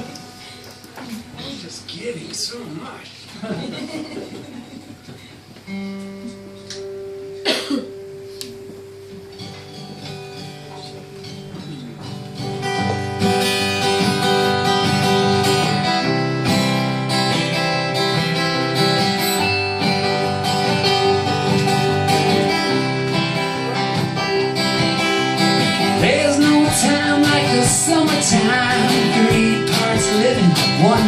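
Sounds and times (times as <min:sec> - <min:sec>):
acoustic guitar strumming: 0:00.0 - 0:02.2, 0:04.1 - 0:31.0.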